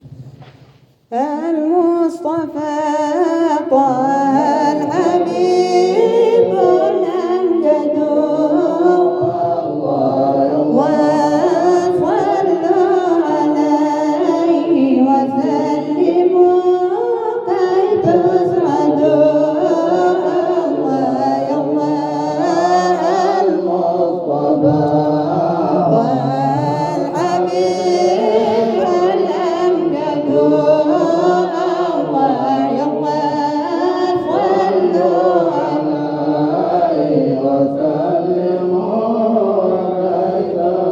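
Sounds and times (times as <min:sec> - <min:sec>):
man singing a devotional chant: 0:01.2 - 0:40.9.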